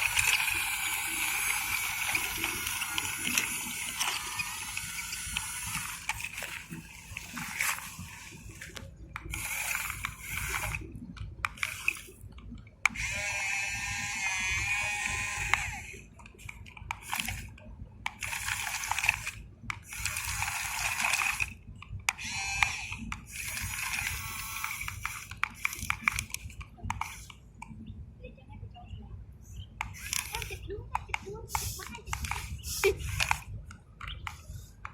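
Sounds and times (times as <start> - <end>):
toy excavator motors whirring: 0.0 - 27.8, 29.4 - 34.9.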